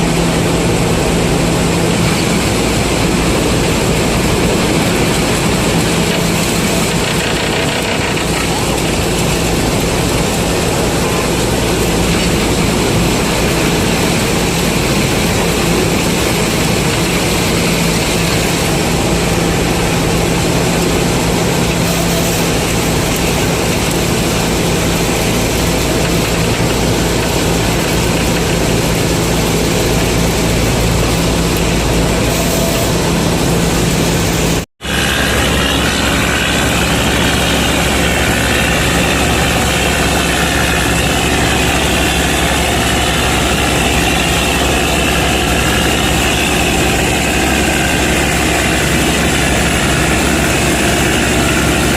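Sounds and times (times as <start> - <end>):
combine harvester engine running: 0.0 - 51.9.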